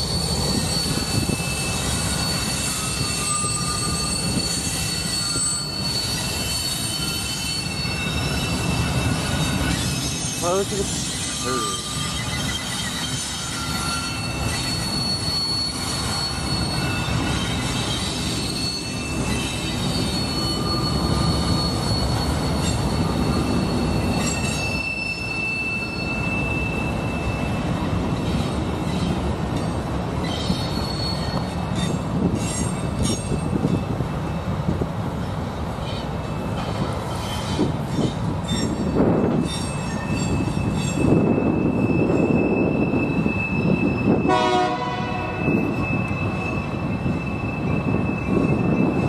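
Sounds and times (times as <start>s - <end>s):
high wheel squeals: 0.0s - 34.4s, 35.2s - 49.0s
train wheels rumbling on rail: 0.0s - 49.0s.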